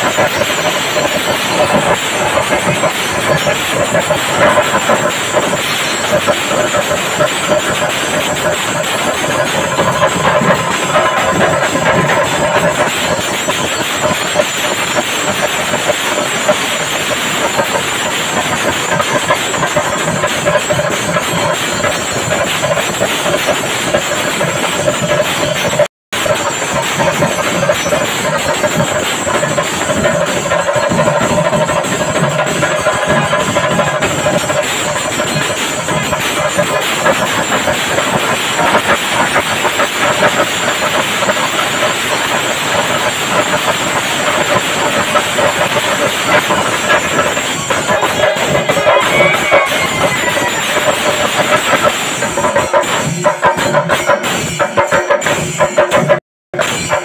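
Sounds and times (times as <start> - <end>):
cymbals clashing: 0.0 - 57.0
drums beaten with sticks: 0.0 - 57.0.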